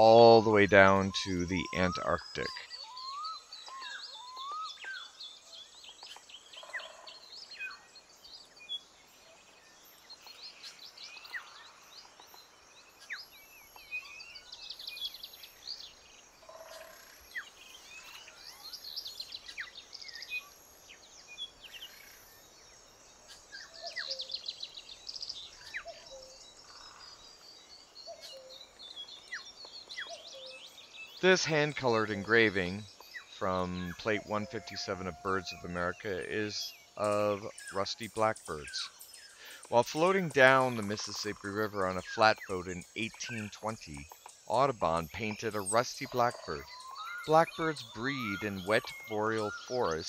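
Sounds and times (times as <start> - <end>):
birds chirping and singing: 0.0 - 50.0.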